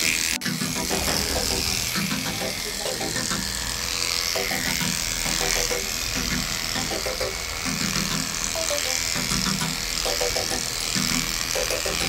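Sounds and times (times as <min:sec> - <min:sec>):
electric dog clipper shaving: 0:00.0 - 0:12.0.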